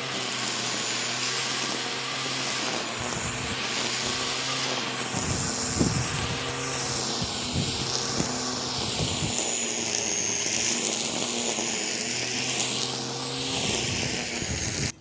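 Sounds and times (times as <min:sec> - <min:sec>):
electric lawn mower whining: 0:00.0 - 0:15.0.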